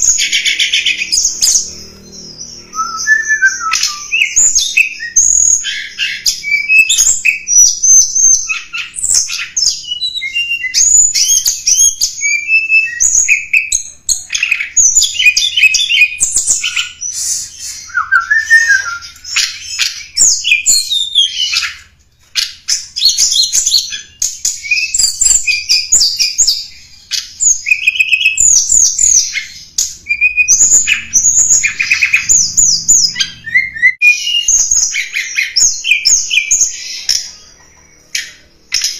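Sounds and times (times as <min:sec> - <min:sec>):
songbird chirping and twittering: 0:00.0 - 0:38.9.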